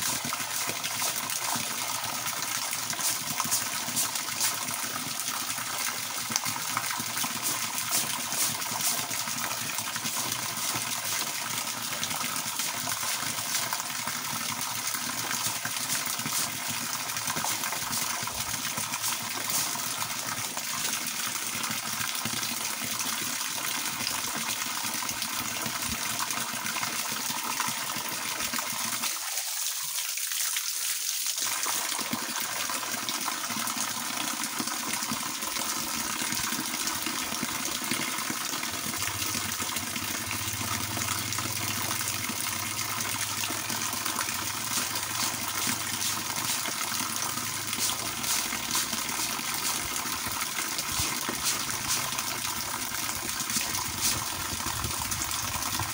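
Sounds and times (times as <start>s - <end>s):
water from hose splashing: 0.0s - 55.9s.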